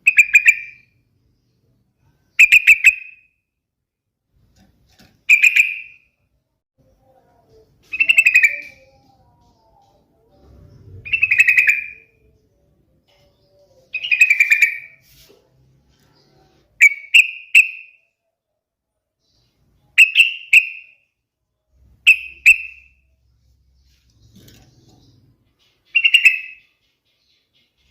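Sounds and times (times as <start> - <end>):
bird singing: 0.0 - 3.4, 5.0 - 6.2, 6.9 - 15.0, 15.9 - 18.2, 19.2 - 21.2, 21.9 - 27.9.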